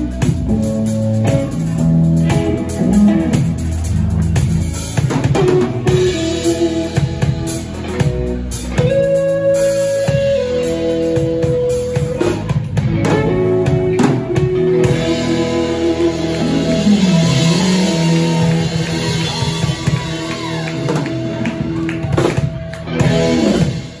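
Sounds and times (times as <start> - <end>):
drum kit: 0.0 - 24.0
electric guitars: 0.0 - 24.0
lead guitar bending notes: 0.0 - 24.0.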